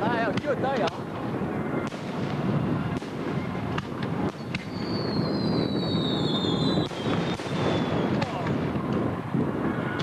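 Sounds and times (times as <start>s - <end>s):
fireworks exploding: 0.0s - 10.0s
whistling firework: 1.6s - 10.0s.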